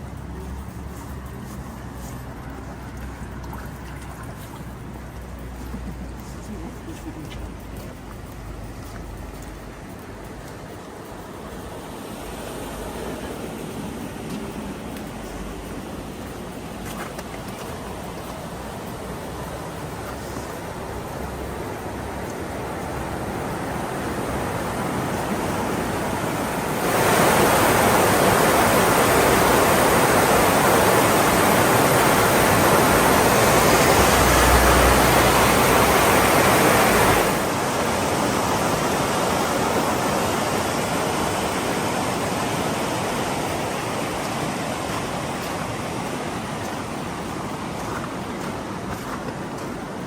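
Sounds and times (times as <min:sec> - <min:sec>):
steady rushing noise: 0:00.0 - 0:50.0.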